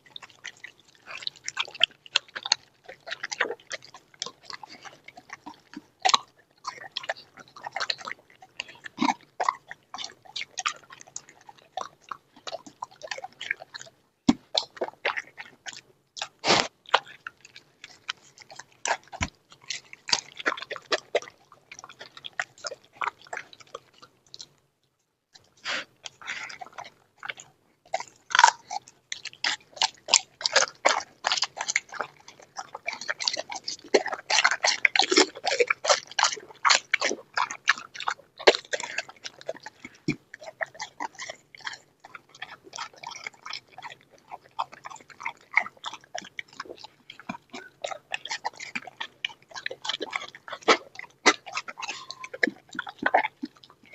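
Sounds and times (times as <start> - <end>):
dog chewing and crunching bones: 0.0 - 53.9.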